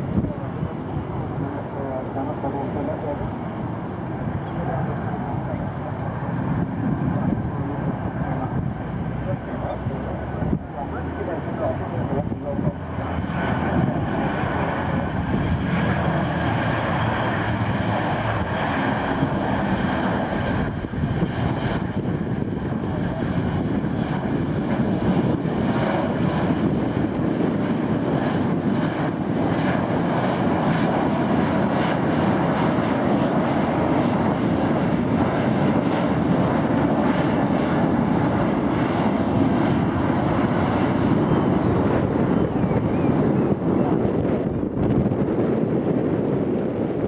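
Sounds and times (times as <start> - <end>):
jet airliner engines: 0.0 - 47.0.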